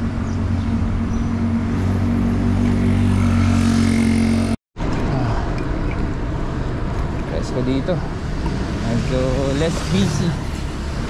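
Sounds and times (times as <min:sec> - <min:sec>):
traffic and road noise: 0:00.0 - 0:11.0
vehicle engine humming: 0:00.0 - 0:11.0.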